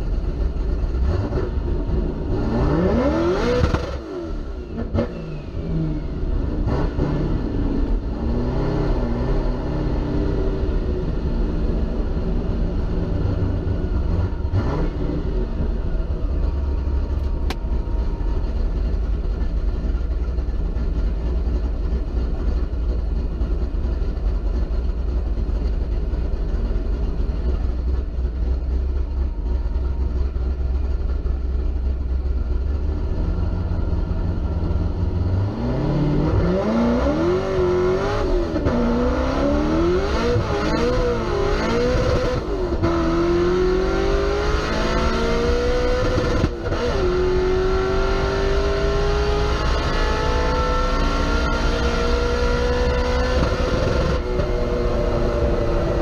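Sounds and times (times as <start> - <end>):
car engine rumble from inside: 0.0 - 56.0.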